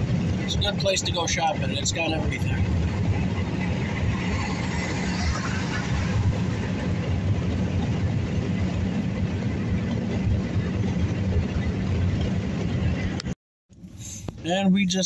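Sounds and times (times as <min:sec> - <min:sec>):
car engine inside cabin: 0:00.0 - 0:15.0
road noise: 0:00.0 - 0:15.0.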